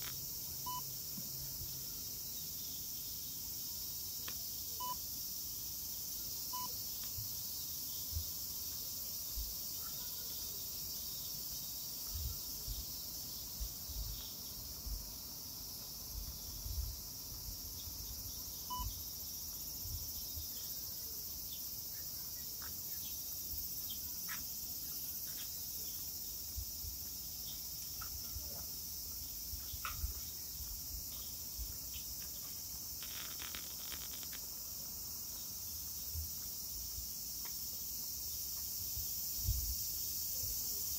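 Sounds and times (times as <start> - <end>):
cicadas singing: 0.0 - 40.9.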